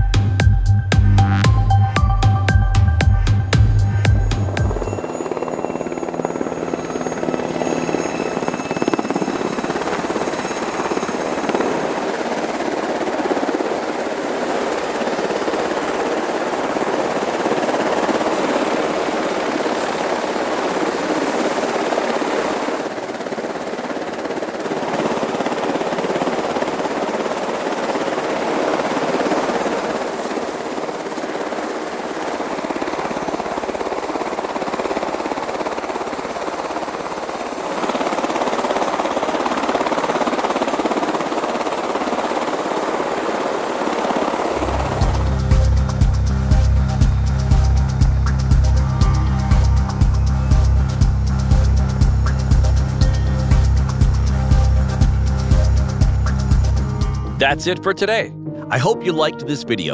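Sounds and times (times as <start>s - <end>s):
helicopter rotors and turbines: 0.0s - 57.9s.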